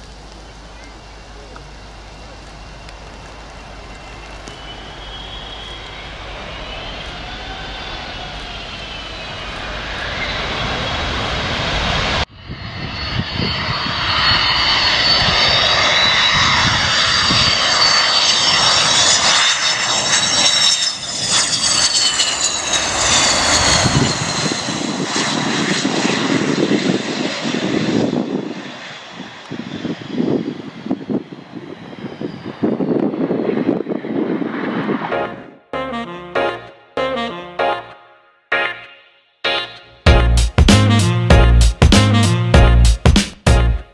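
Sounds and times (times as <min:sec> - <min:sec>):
jet engines with falling whine: 0:00.0 - 0:36.1
low passing jet whining: 0:00.0 - 0:43.9.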